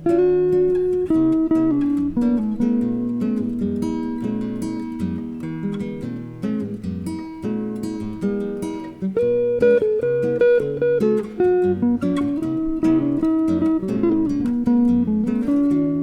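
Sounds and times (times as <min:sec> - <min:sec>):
jazz guitar duo: 0:00.0 - 0:16.0.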